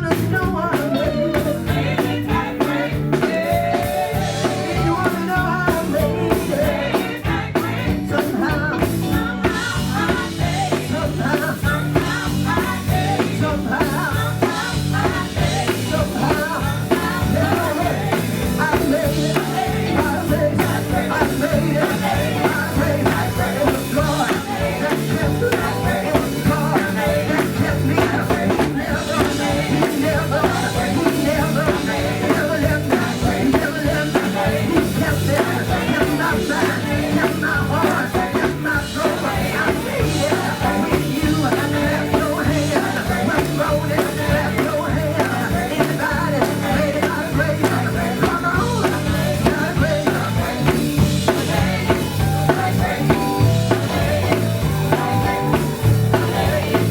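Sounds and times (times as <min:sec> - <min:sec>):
live gospel band with singing: 0:00.0 - 0:56.9.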